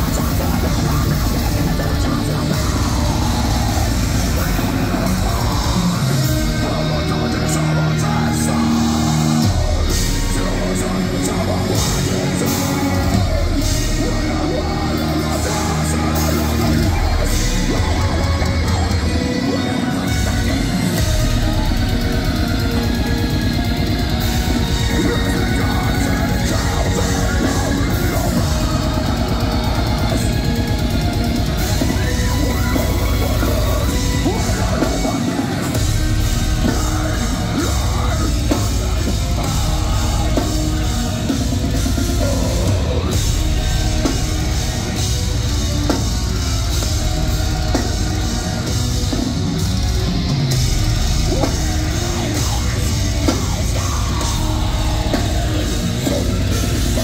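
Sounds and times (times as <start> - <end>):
distorted electric guitars: 0.0 - 57.0
drum kit: 0.0 - 57.0
harsh screamed vocals: 0.0 - 57.0.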